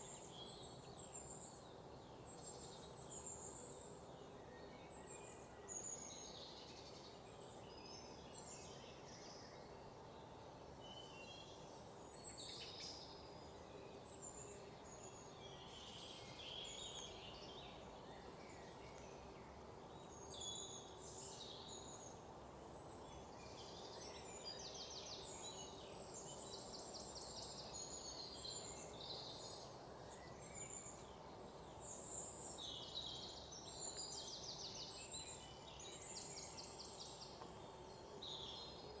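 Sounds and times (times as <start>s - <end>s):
songbirds chirping and trilling: 0.0s - 39.0s.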